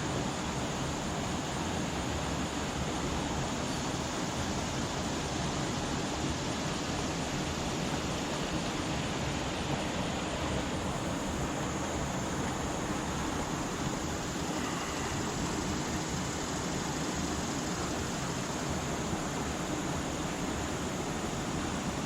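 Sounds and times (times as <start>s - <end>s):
river water rushing over dam: 0.0s - 22.0s.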